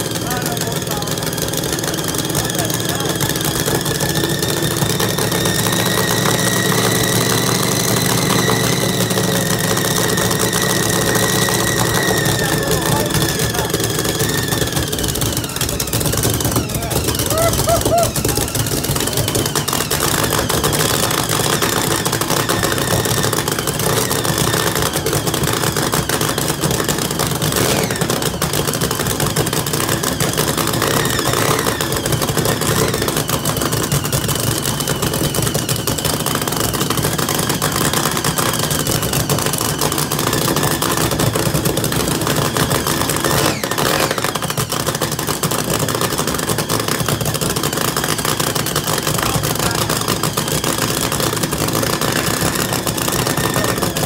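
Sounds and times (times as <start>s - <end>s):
boat engine idling choppily: 0.0s - 54.0s.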